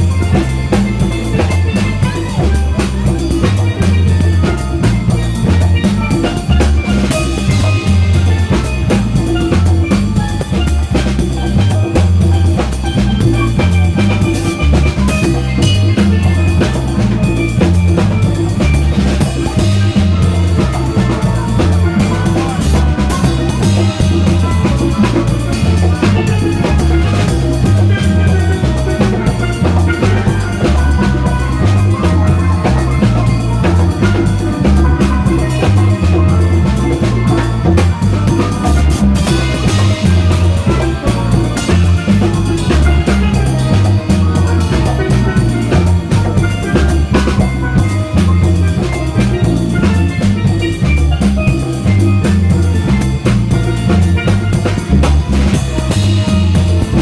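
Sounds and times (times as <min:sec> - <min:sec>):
bass line: 0:00.0 - 0:57.0
steady drums: 0:00.0 - 0:57.0
steel pans playing melody: 0:00.0 - 0:57.0.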